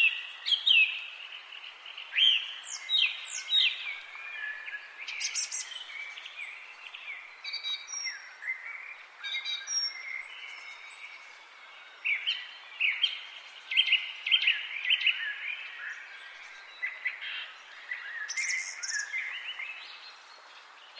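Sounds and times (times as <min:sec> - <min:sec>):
faint steady hiss: 0:00.0 - 0:20.9
songbirds singing: 0:00.0 - 0:20.9.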